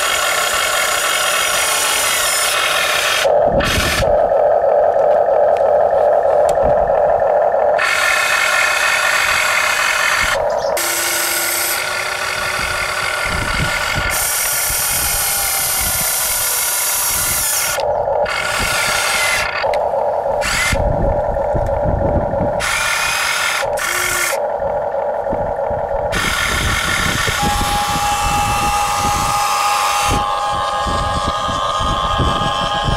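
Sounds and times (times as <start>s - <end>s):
small electric motors whirring: 0.0s - 32.9s.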